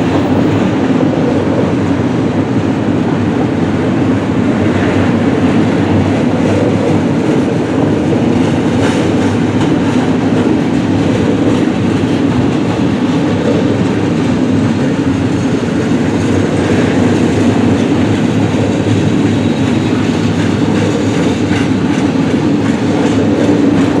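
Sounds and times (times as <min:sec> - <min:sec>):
freight train wheels rumbling on rails: 0:00.0 - 0:24.0.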